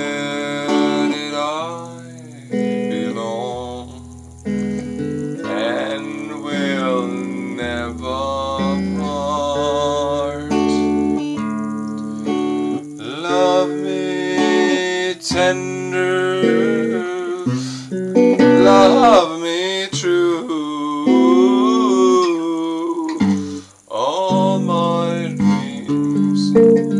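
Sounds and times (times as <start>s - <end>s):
man singing: 0.0s - 4.1s, 5.4s - 11.3s, 12.2s - 26.9s
guitar chords: 0.0s - 26.9s.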